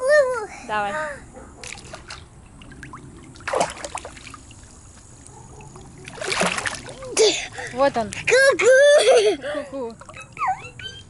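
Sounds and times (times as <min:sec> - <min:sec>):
pool water splashing: 0:01.6 - 0:10.7.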